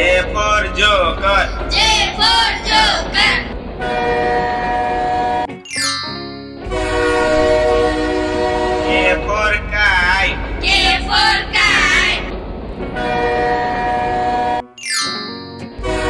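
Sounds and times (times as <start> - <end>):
low rumble: 0.0 - 5.4, 6.6 - 14.1
cartoon train horn: 0.0 - 5.6, 6.6 - 12.3, 13.0 - 14.8, 15.8 - 16.0.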